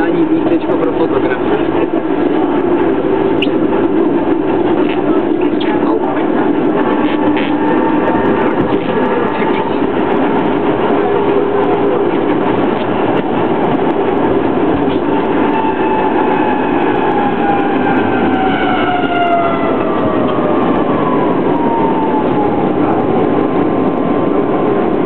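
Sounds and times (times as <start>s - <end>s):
tram rolling and rumbling: 0.0s - 25.0s.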